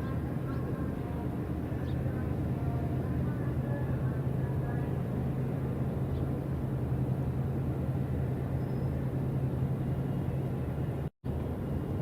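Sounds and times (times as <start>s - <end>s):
ship engine droning: 0.0s - 12.0s.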